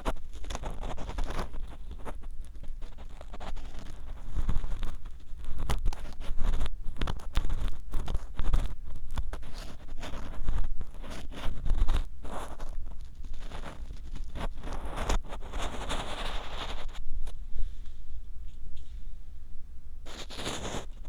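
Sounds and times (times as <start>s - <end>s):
ear pick scraping in microphone: 2.8s - 19.1s, 20.1s - 21.0s.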